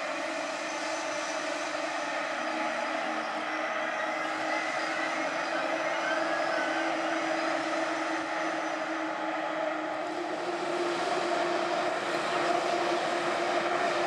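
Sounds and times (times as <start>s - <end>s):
train humming: 0.0s - 14.0s.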